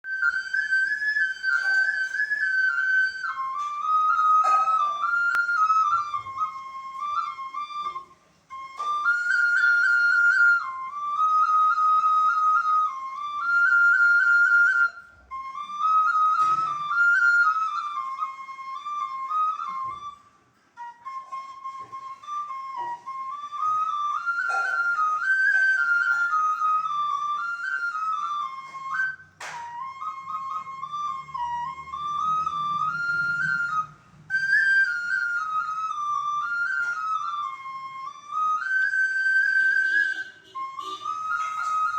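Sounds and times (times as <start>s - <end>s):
bamboo flute melody: 0.0s - 41.9s.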